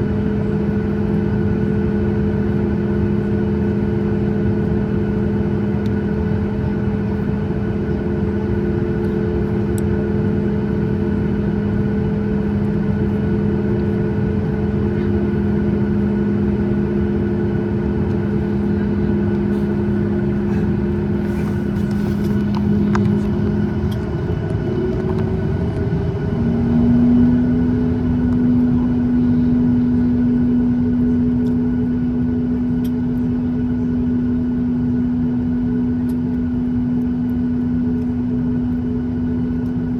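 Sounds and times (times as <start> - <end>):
airliner cabin engine and air noise: 0.0 - 39.9
low droning hum: 0.0 - 39.9.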